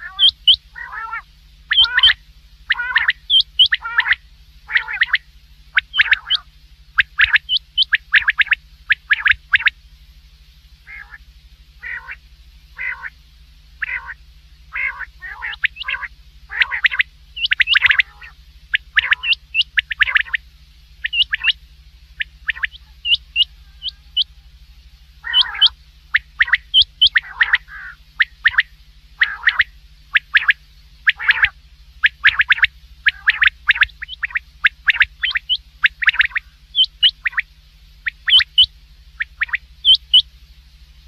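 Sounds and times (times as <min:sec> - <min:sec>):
quail calls: 0:00.0 - 0:09.8, 0:10.8 - 0:13.2, 0:13.8 - 0:20.4, 0:21.0 - 0:40.3
low electrical hum: 0:00.0 - 0:41.0.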